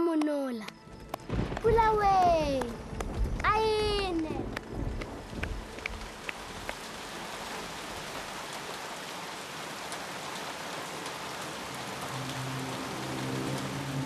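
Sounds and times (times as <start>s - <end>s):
steady rain falling: 0.6s - 14.0s.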